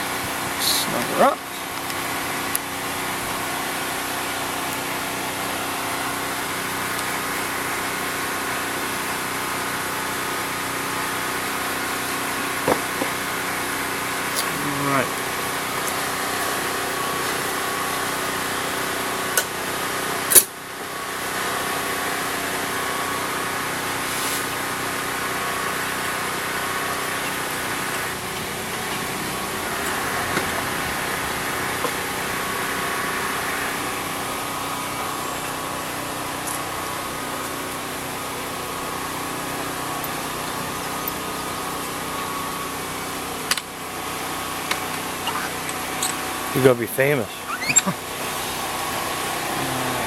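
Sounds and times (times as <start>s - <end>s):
engine drone with whine: 0.0s - 50.0s
steady mechanical hum: 0.0s - 50.0s.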